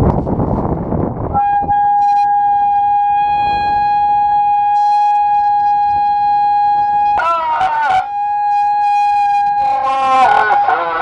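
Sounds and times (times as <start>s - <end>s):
megaphones high-pitched tone: 1.4s - 11.0s.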